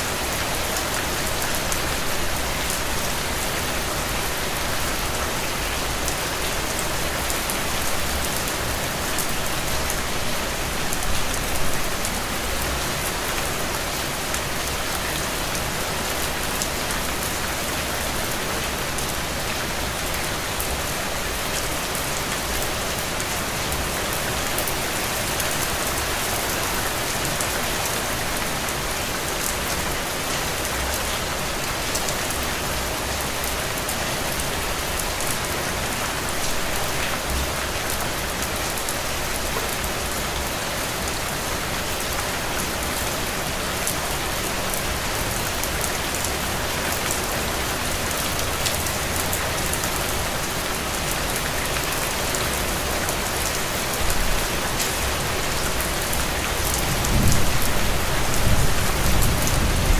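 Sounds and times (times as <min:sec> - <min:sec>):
heavy rain on soil: 0:00.0 - 0:59.9.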